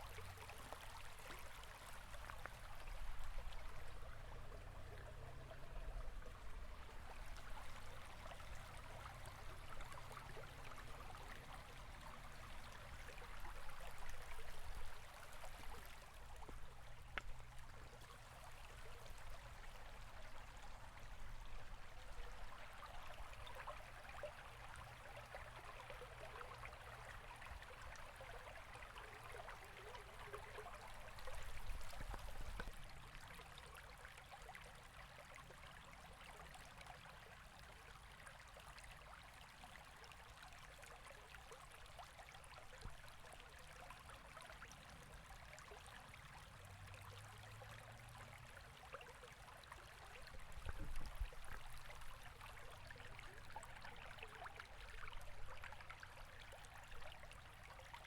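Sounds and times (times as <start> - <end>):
stream water rushing and babbling: 0.0 - 58.0.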